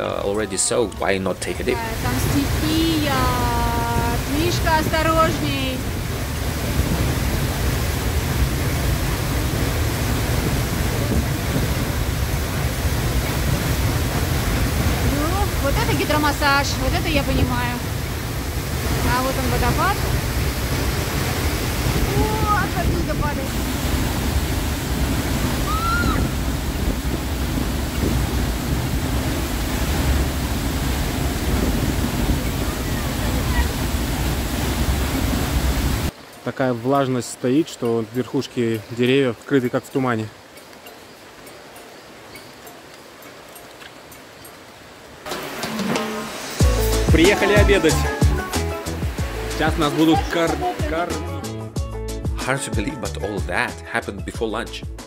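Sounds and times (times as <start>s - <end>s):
waterfall roaring: 0.0s - 51.4s.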